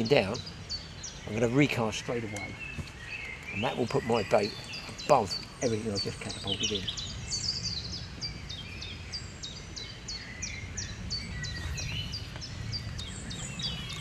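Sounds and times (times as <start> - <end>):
low wind rumble: 0.0 - 14.0
small bird calling: 0.0 - 14.0.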